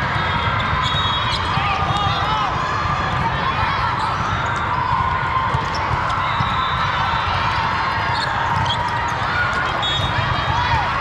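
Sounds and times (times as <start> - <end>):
volleyballs hit and bouncing: 0.0 - 11.0.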